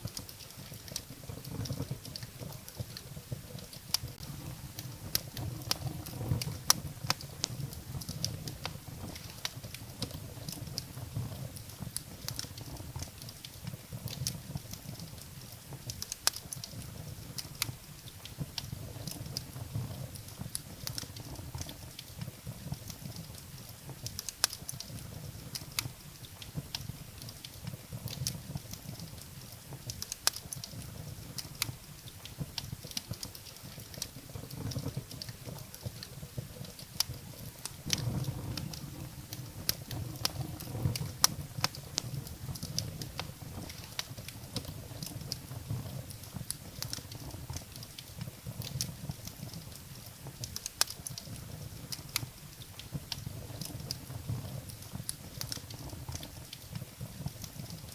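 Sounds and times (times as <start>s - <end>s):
low rumble of flames: 0.0s - 57.9s
wood fire crackling and popping: 0.0s - 57.9s.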